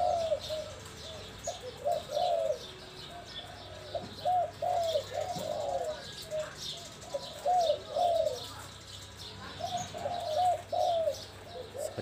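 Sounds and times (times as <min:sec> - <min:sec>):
dove cooing: 0:00.0 - 0:12.0
small birds chirping: 0:00.0 - 0:12.0.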